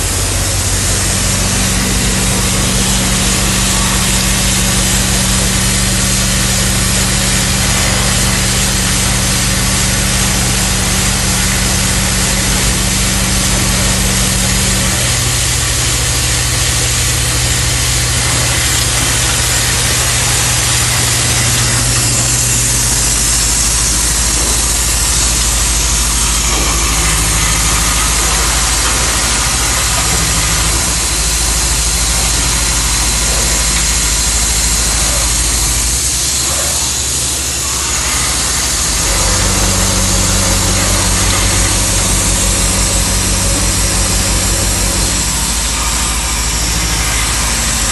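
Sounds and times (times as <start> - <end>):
machine mechanical hum: 0.0 - 47.9.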